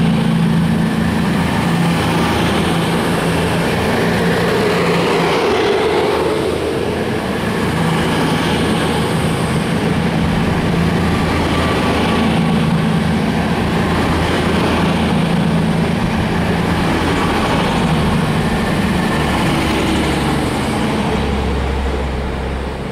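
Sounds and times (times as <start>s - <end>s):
low diesel engine drone: 0.0s - 22.9s
train wheels rumbling: 0.0s - 22.9s.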